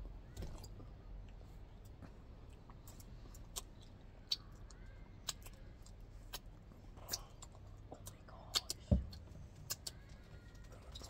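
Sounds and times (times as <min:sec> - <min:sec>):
mouth clicks and smacks chewing: 0:01.2 - 0:11.0.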